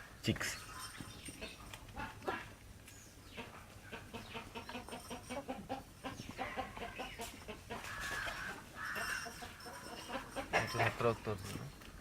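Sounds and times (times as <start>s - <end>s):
chickens clucking: 0.8s - 11.1s.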